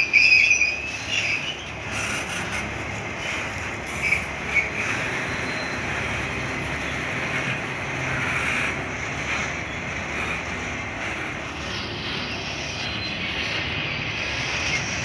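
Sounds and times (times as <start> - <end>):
freight train wheels on rail: 0.0 - 15.0.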